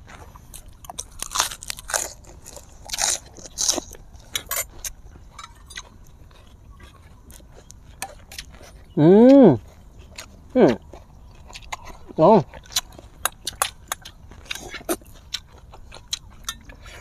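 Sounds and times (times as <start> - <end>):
lettuce crunching and chewing: 0.0 - 17.0.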